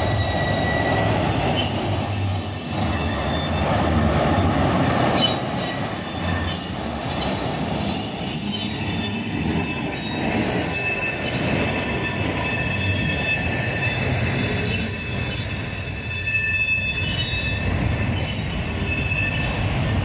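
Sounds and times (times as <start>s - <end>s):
high-pitched flange squeals: 0.0s - 20.0s
train wheels rumbling over rails: 0.0s - 20.0s.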